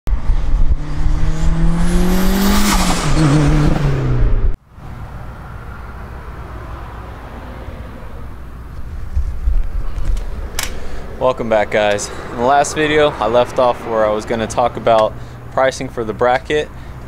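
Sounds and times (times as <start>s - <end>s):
car engine revving: 0.1s - 16.2s.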